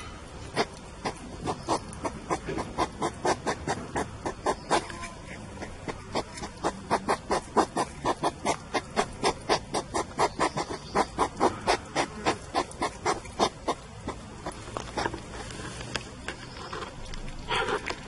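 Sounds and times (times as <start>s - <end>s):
hedgehogs sniffing and chewing: 0.0s - 18.0s.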